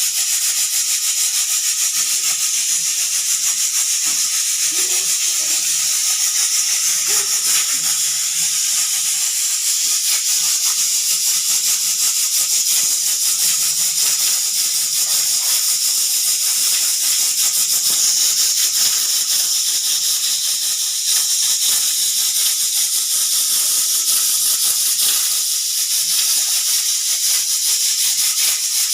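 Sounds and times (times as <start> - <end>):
pressure cooker whistle hissing: 0.0 - 28.9.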